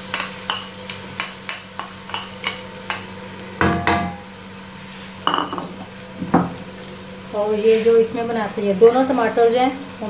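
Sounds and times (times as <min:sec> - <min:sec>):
faint sizzle: 0:00.0 - 0:10.0.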